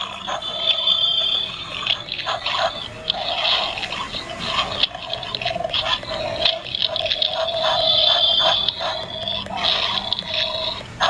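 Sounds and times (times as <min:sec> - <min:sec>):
raspy sound effect from speakers: 0:00.0 - 0:11.0.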